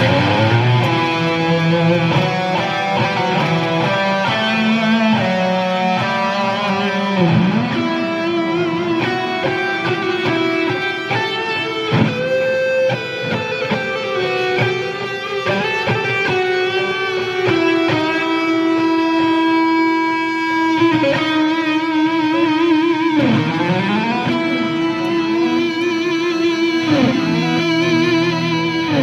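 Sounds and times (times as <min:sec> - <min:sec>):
electric guitar sustained notes: 0:00.0 - 0:29.0.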